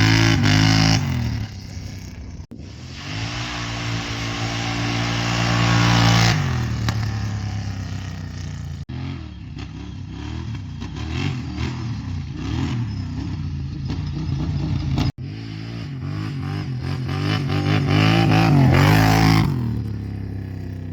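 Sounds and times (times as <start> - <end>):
atv engine revving: 0.0 - 20.9.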